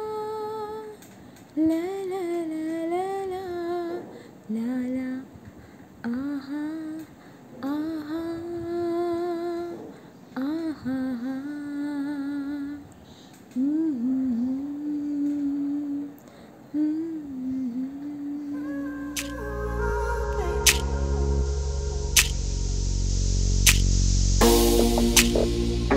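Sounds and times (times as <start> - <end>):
woman singing wordless melody: 0.0 - 21.5.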